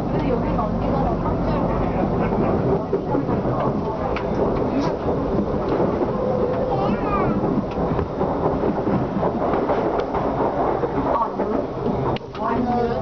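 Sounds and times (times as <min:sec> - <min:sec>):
train car rumbling on track: 0:00.0 - 0:13.0
train rushing past: 0:00.0 - 0:13.0.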